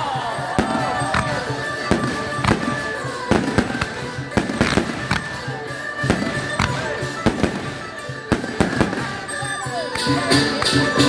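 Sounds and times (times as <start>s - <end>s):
fireworks bangs: 0.0s - 11.0s
music playing: 0.0s - 11.0s.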